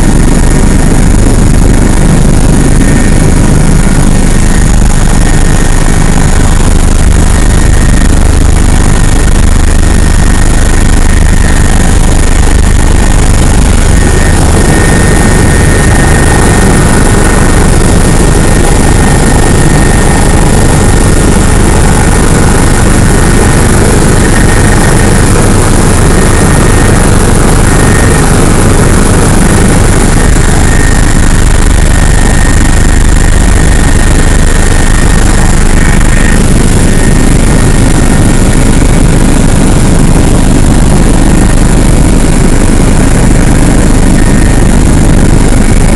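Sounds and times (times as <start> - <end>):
faint high whine: 0.0 - 45.9
helicopter engine and rotor roar: 0.0 - 45.9.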